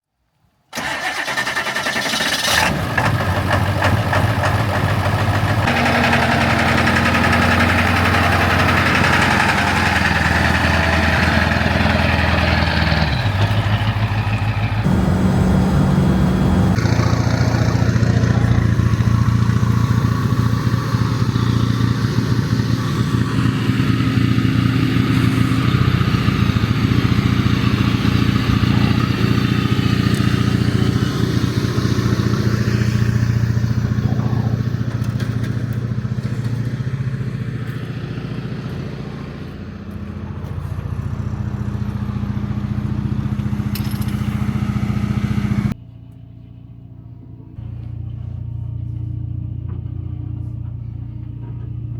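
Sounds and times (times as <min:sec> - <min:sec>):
vehicle engine droning: 0:02.4 - 0:51.9.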